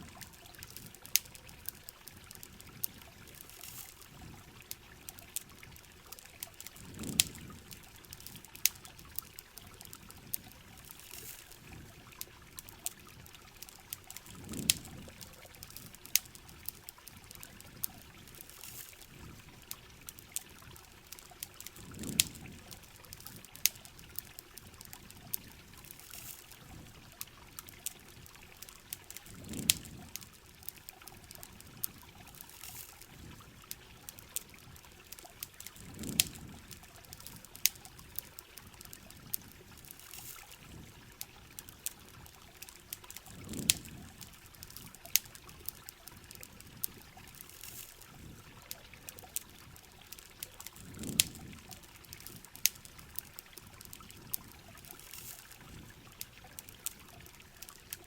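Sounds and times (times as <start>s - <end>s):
campfire crackling and popping: 0.0s - 58.0s
rain: 0.0s - 58.0s
running water: 0.0s - 58.0s.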